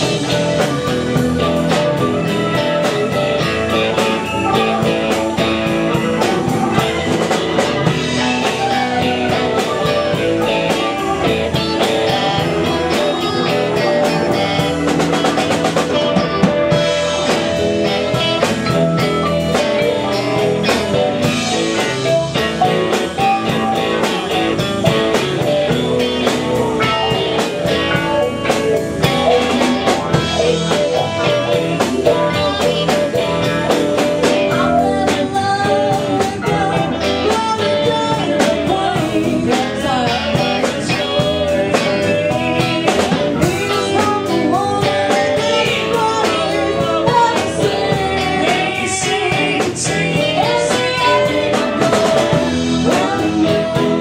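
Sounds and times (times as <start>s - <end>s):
drum kit: 0.0s - 54.0s
electric bass: 0.0s - 54.0s
electric guitars: 0.0s - 54.0s
keyboard: 0.0s - 54.0s.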